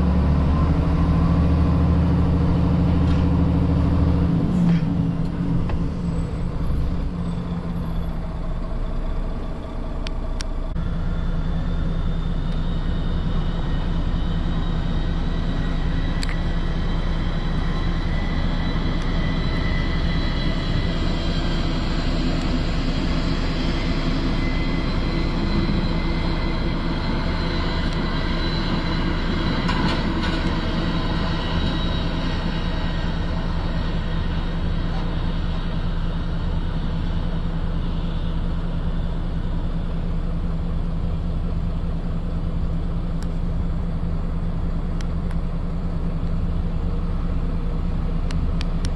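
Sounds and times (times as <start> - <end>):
vehicle engine running: 0.0 - 48.9
faint high whine: 5.2 - 48.9.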